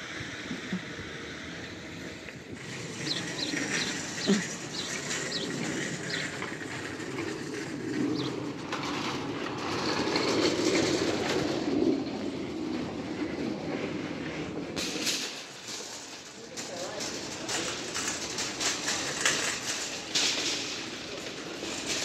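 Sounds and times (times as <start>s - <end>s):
shopping cart rattling over asphalt: 0.2s - 22.0s.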